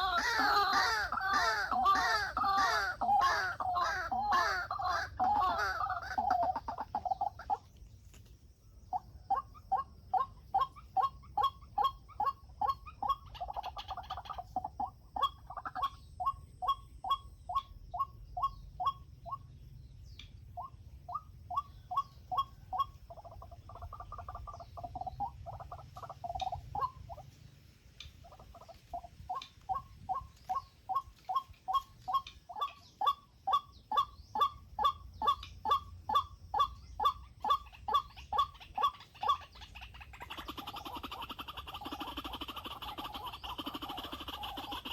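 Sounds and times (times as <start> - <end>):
waterhen calling: 0.0 - 7.8, 8.9 - 44.9.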